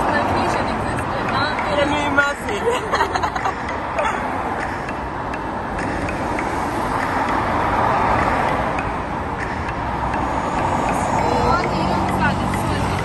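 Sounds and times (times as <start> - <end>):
road traffic roar: 0.0 - 13.0.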